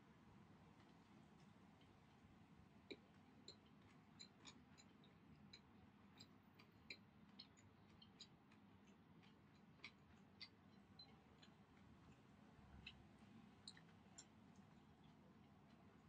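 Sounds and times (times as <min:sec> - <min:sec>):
person chewing food clicks: 0:02.8 - 0:16.0.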